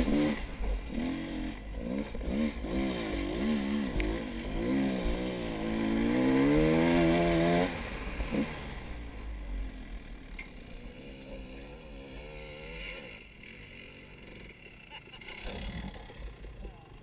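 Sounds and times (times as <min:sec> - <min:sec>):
vehicle engine revving: 0:00.0 - 0:16.7.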